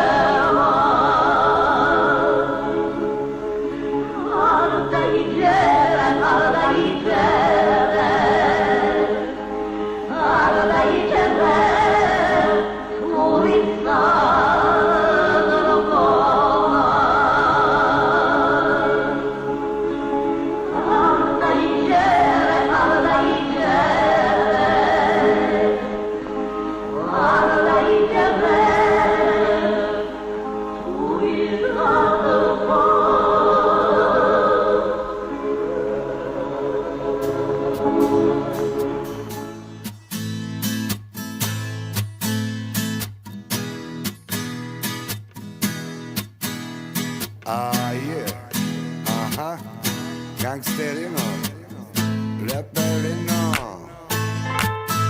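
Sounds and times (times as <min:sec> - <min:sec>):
voices singing with vibrato: 0:00.0 - 0:39.4, 0:47.4 - 0:55.0.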